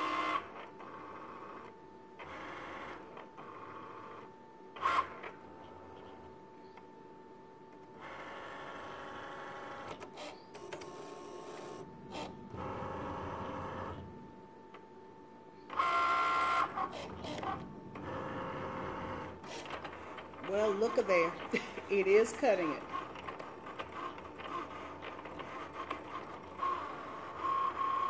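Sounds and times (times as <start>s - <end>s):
cutting machine motors whirring: 0.0s - 7.0s, 7.7s - 14.9s, 15.6s - 28.0s.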